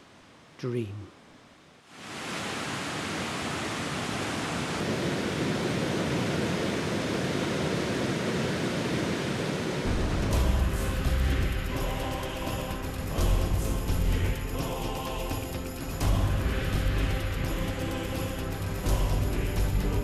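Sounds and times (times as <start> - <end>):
waterfall rushing: 1.9 - 20.0.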